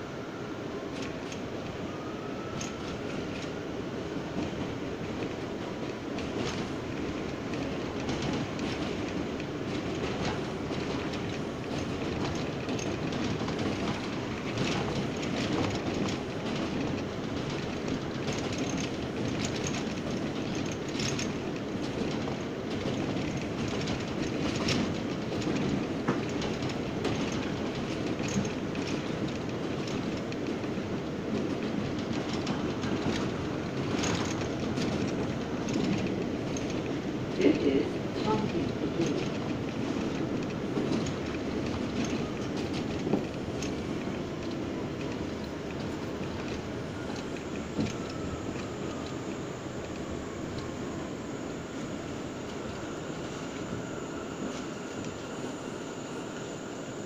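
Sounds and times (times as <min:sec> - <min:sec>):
subway car rumble: 0:00.0 - 0:57.0
wheels clicking over rail joints: 0:04.3 - 0:55.2.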